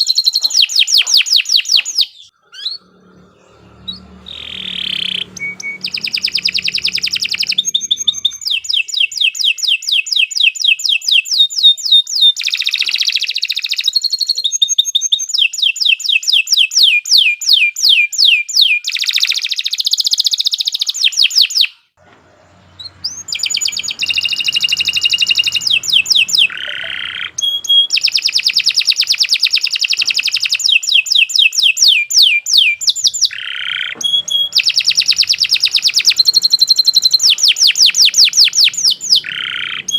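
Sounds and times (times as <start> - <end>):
canary singing trills: 0.0 - 21.8, 22.4 - 39.9.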